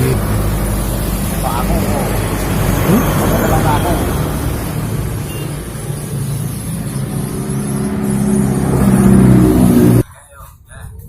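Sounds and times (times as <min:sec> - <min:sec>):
steady rushing noise: 0:00.0 - 0:10.0
vehicle engine running: 0:00.0 - 0:10.0.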